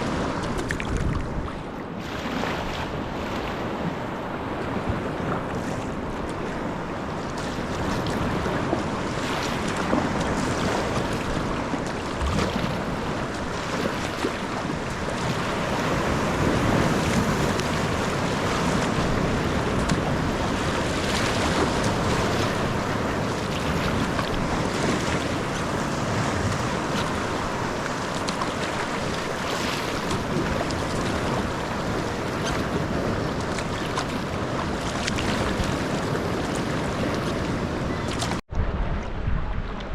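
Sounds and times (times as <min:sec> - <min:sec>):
water splashing around kayak: 0:00.0 - 0:39.1
wind noise on microphone: 0:00.0 - 0:39.9.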